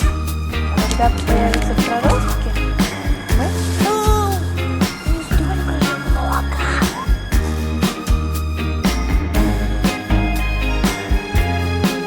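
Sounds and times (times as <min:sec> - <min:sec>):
funk soul music: 0:00.0 - 0:12.0.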